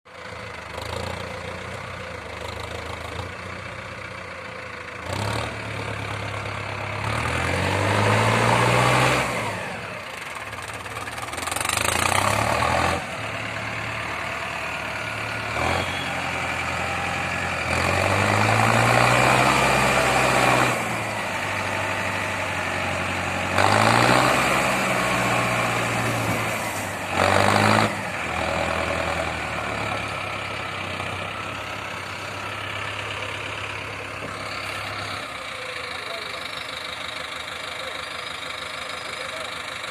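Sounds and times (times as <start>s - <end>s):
tractor diesel engine revving: 0.1s - 39.9s.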